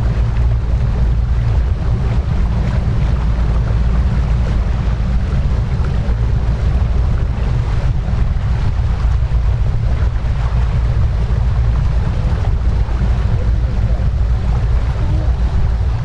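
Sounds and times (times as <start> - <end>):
hiss of wind and water: 0.0 - 16.0
wind buffeting microphone: 0.0 - 16.0.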